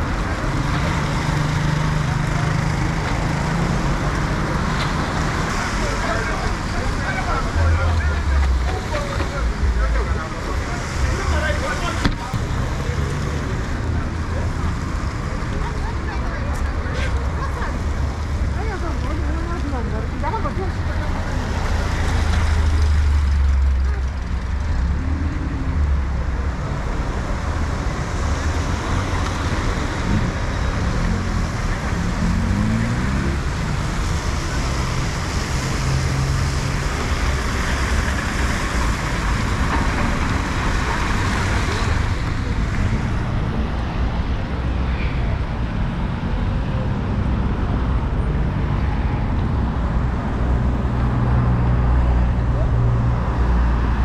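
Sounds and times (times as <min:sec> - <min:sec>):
vehicle engines passing: 0:00.0 - 0:54.0.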